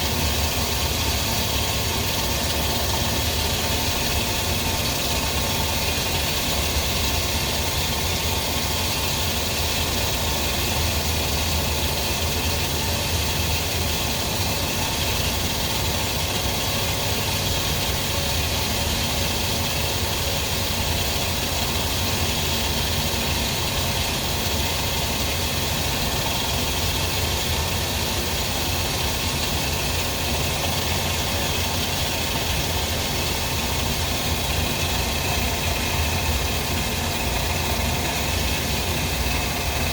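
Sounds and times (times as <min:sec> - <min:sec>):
machine running with low rumble: 0:00.0 - 0:39.9.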